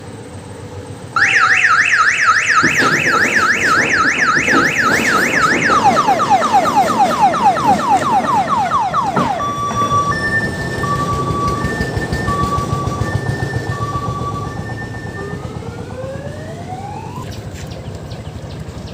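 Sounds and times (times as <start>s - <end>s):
electronic siren warbling: 1.2s - 17.6s.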